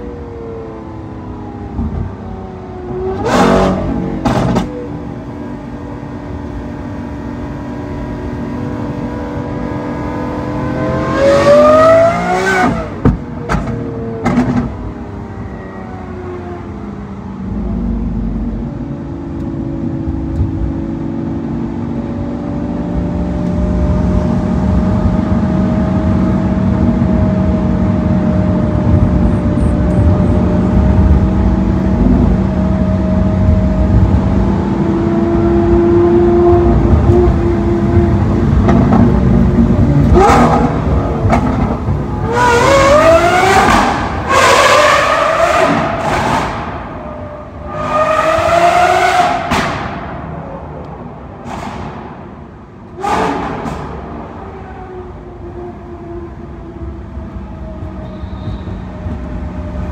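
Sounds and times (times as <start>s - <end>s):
car engine revving: 2.8s - 14.8s, 16.6s - 59.9s.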